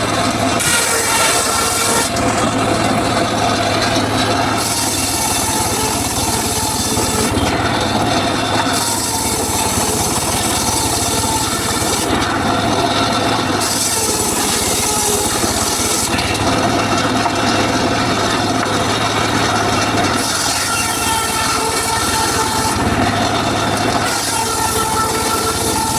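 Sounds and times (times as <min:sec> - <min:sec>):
circular saw cutting wood: 0:00.0 - 0:25.9
saw motor hum: 0:00.0 - 0:25.9.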